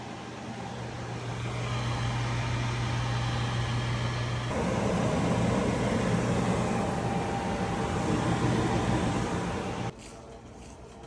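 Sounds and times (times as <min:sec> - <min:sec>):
fan air rushing: 0:00.0 - 0:10.0
microwave vent fan hum: 0:00.0 - 0:10.0.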